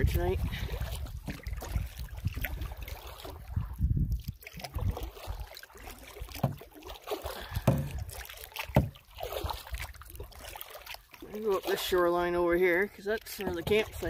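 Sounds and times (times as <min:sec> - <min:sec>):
paddle strokes through water: 0:00.0 - 0:14.0
water trickling along hull: 0:00.0 - 0:14.0.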